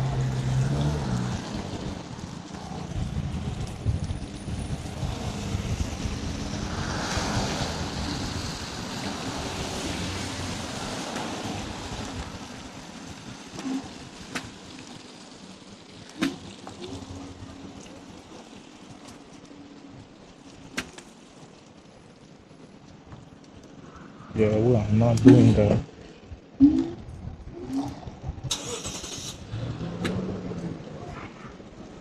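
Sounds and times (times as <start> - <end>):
road noise hiss: 0.0 - 32.0
wind rumbling on microphone: 0.0 - 32.0.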